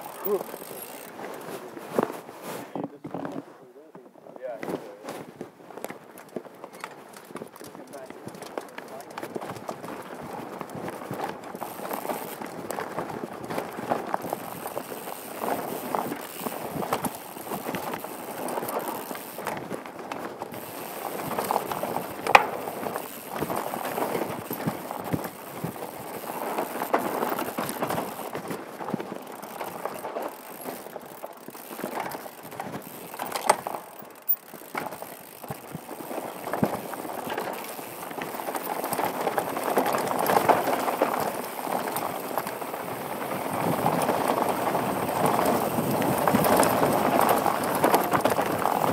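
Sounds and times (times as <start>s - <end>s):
bike rattling: 0.0s - 3.6s, 4.4s - 48.9s
tyres over dirt and rocks: 0.0s - 48.9s.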